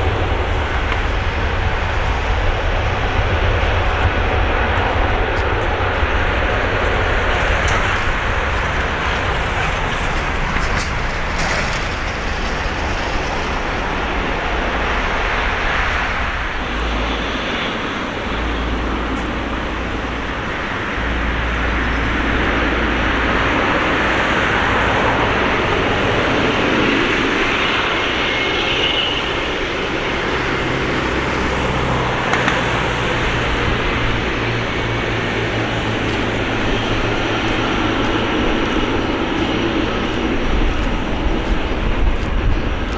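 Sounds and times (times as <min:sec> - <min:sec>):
jet engines roaring: 0:00.0 - 0:42.9.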